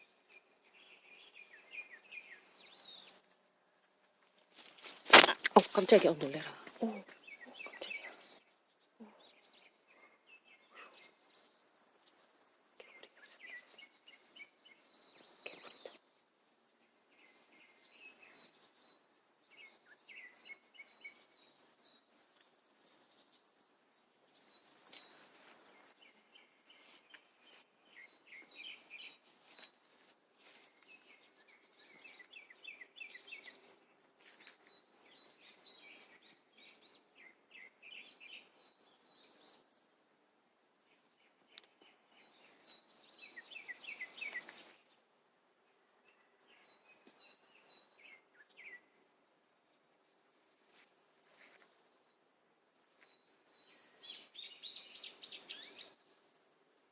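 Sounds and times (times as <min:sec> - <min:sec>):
songbirds chirping: 0:00.0 - 0:56.9.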